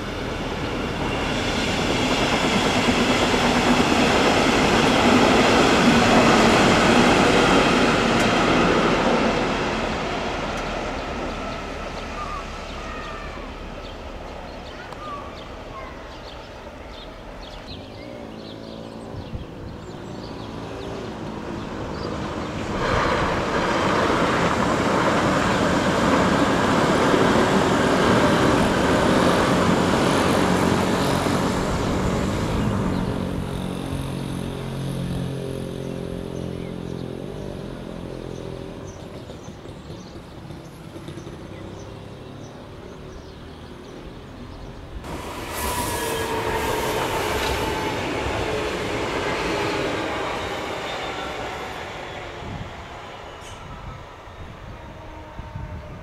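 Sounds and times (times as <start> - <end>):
electric train passing: 0.0 - 56.0.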